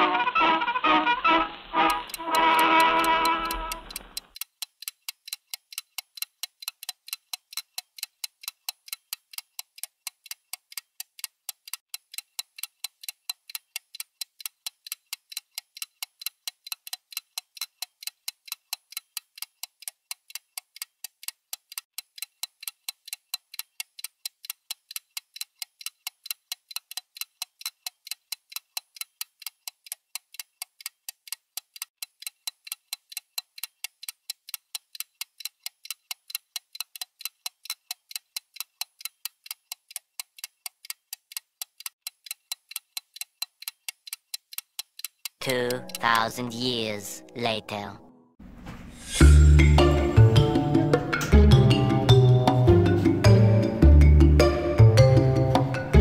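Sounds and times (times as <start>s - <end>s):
clock ticking: 1.3s - 48.0s.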